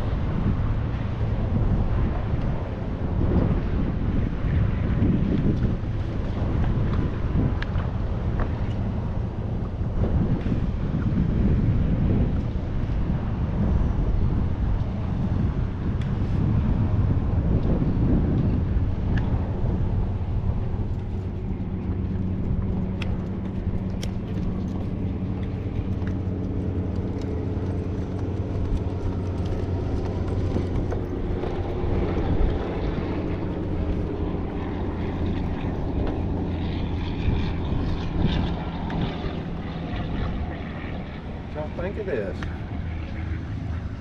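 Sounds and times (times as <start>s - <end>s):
low engine drone: 0.0s - 44.0s.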